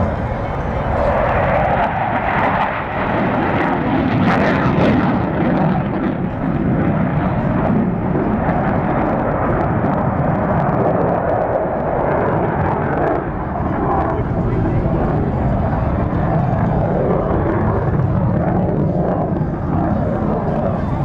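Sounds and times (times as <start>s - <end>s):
jet aircraft flying past: 0.0s - 21.0s.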